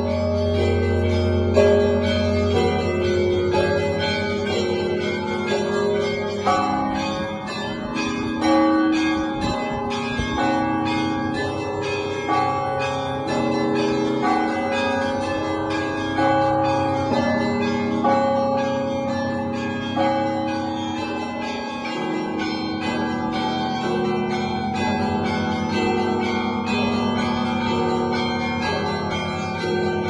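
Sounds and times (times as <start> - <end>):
deep church bells ringing: 0.0 - 30.0
small church bells chiming: 0.0 - 30.0.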